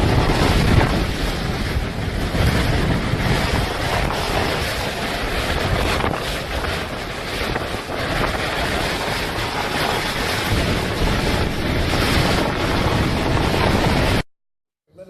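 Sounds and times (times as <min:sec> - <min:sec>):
strong wind gusting on microphone: 0:00.0 - 0:14.2.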